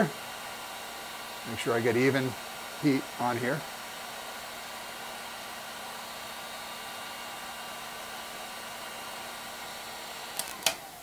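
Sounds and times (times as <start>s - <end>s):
heat gun blowing: 0.0s - 11.0s.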